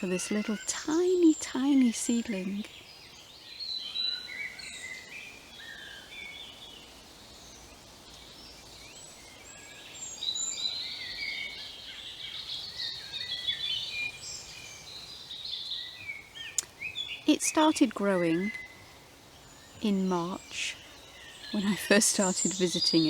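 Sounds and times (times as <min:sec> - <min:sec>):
birds chirping and warbling: 0:00.0 - 0:23.0.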